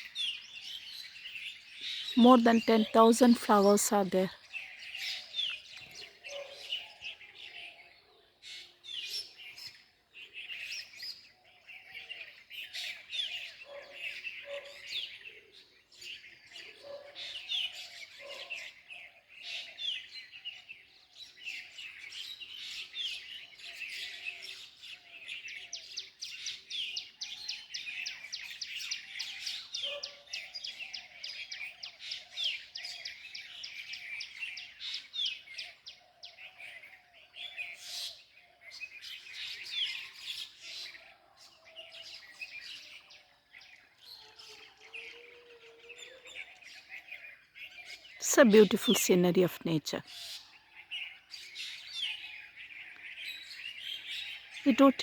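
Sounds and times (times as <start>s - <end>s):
flock of small birds chirping: 0.0s - 55.0s.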